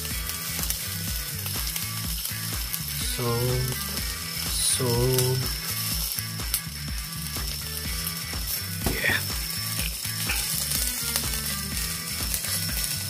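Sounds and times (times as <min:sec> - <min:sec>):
charcoal crackling and popping: 0:00.0 - 0:13.0
meat sizzling on grill: 0:00.0 - 0:13.0
music with low bass beat: 0:00.0 - 0:13.0.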